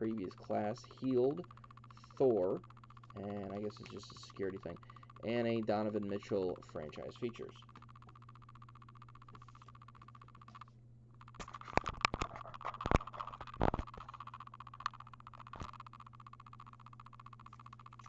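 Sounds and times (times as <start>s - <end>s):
rapid electronic clicking: 0.0s - 18.0s.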